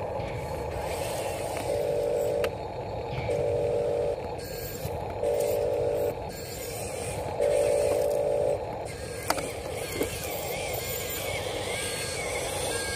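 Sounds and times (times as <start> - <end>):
electric motor whirring: 0.0 - 12.9.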